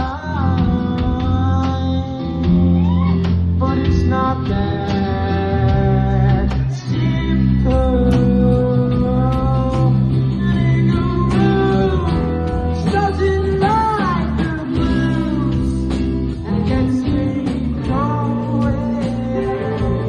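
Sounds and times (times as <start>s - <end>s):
blues-rock song with guitar: 0.0s - 20.0s.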